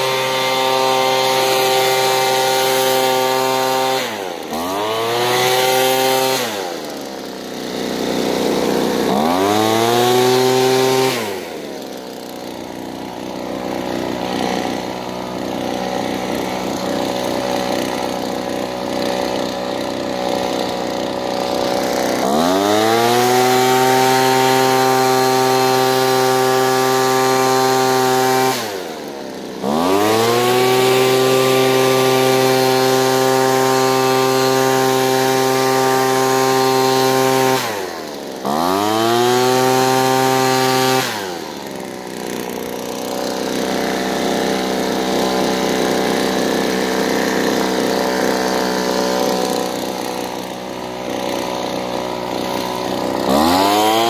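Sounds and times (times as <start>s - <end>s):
leaf blower whining: 0.0s - 54.0s.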